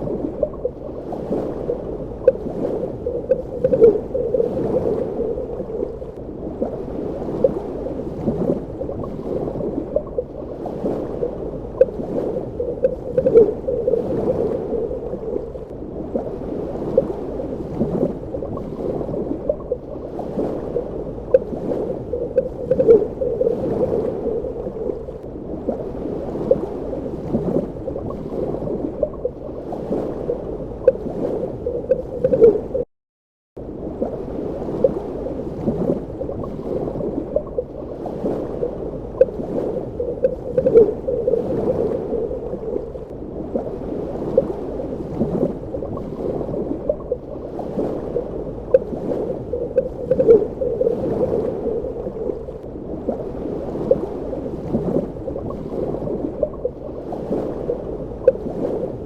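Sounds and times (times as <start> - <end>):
muffled underwater wash: 0.0 - 32.9, 33.6 - 59.0.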